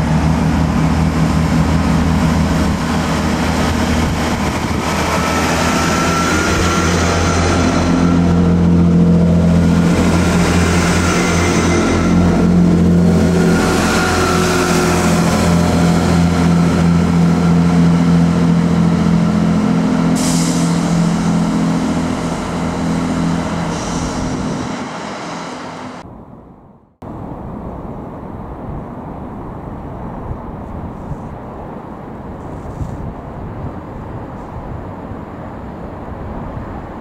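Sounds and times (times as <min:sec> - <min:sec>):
diesel train engine drone: 0:00.0 - 0:30.4.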